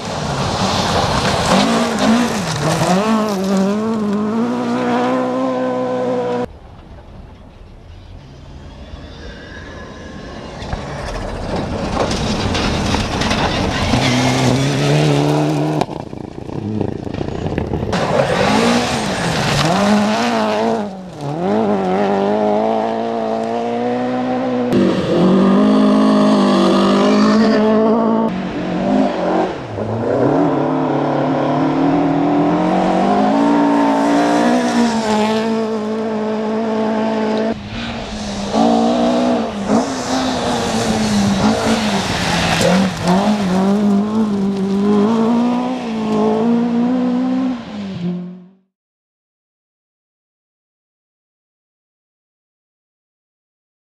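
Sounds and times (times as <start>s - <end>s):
rally car engines revving: 0.0s - 6.5s, 8.6s - 48.6s.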